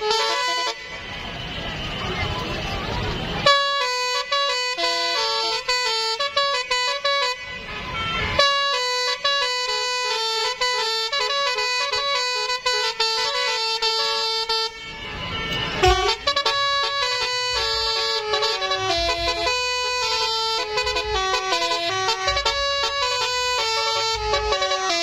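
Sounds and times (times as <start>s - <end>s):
melodic multi-tone air horn: 0.0s - 25.0s.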